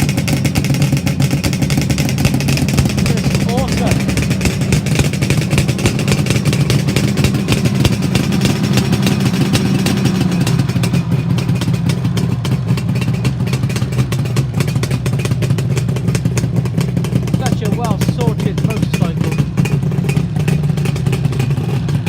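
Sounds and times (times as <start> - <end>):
two-stroke motorcycle idling: 0.0 - 22.0.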